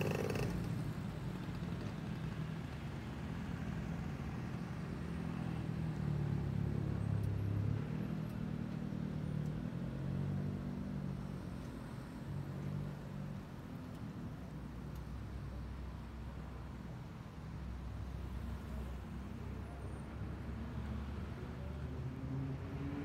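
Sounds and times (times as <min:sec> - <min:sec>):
vehicles driving past: 0:00.0 - 0:23.0.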